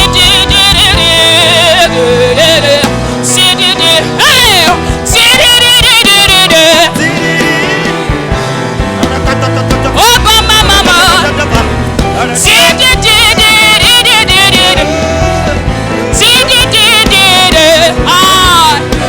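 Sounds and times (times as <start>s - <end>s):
gospel singing: 0.0s - 19.0s
instrumental accompaniment: 0.0s - 19.0s.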